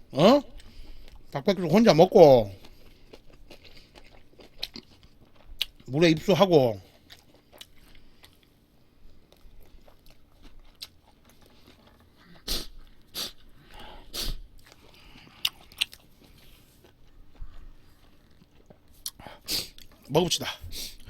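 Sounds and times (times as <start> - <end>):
chewing and wet mouth sounds: 0.4 - 21.0.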